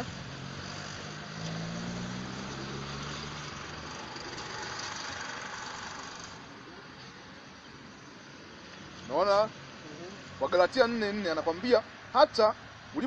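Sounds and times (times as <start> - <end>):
engine humming: 0.0 - 10.6.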